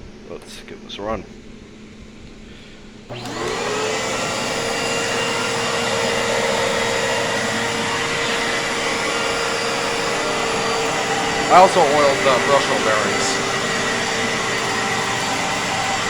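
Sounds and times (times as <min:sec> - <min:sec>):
vacuum cleaner motor whine: 0:03.1 - 0:16.0.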